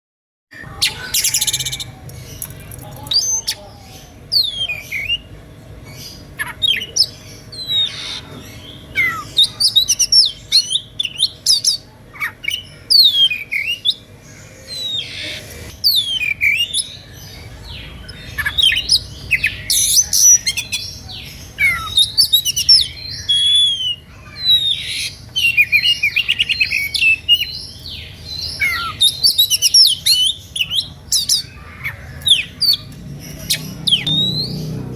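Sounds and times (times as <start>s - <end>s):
magpie-robin singing: 0.5s - 34.9s.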